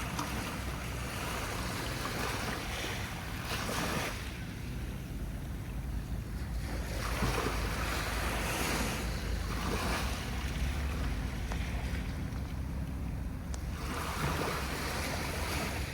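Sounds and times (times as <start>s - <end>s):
sea waves breaking: 0.0s - 15.9s
steady low rumble: 0.0s - 15.9s.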